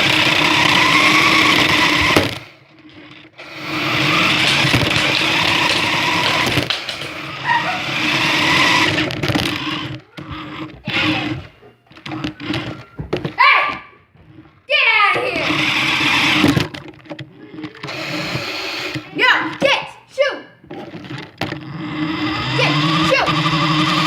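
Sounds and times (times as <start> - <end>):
toy car electric motor whining: 0.0 - 13.5, 14.3 - 19.6, 20.7 - 24.0.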